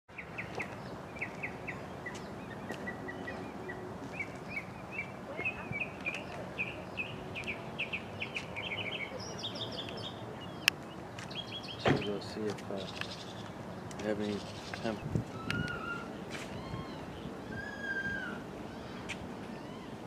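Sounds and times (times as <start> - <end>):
outdoor background noise: 0.1 - 20.0
small birds chirping: 0.1 - 20.0.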